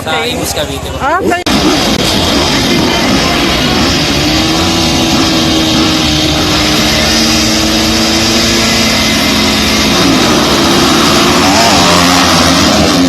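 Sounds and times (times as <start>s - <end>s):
dirt bike engines running: 0.0s - 13.0s.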